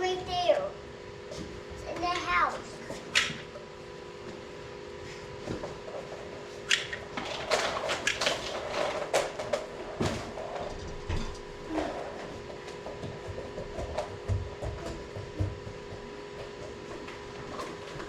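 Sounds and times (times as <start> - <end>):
pellet stove humming: 0.0 - 18.0.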